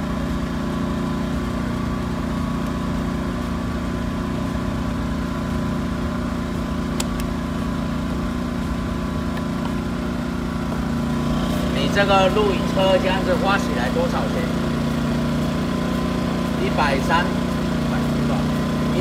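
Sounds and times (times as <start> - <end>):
generator running: 0.0 - 19.0.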